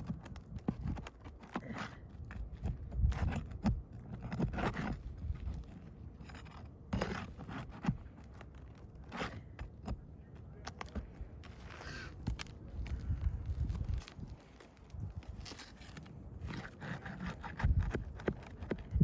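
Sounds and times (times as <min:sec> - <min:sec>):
tool scraping under roof shingles: 0:00.0 - 0:19.0.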